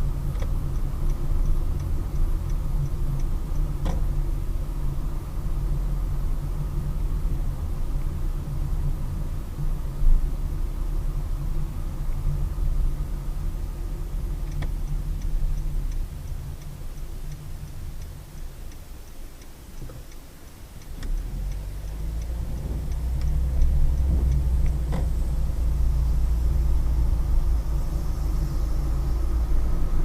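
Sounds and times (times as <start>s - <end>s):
faint fast regular ticking: 0.0s - 6.9s, 11.1s - 29.4s
car engine and road noise: 0.0s - 30.0s.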